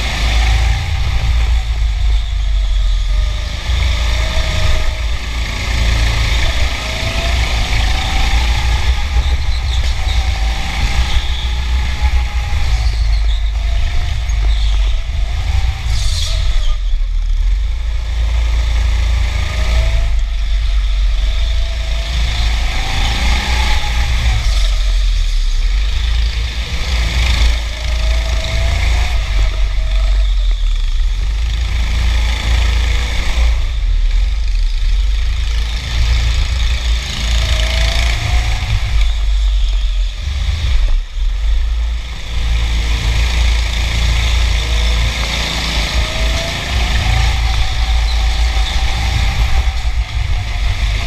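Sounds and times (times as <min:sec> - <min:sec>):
go-kart motor accelerating: 0:00.0 - 0:51.0
low vibration rumble: 0:00.0 - 0:51.0.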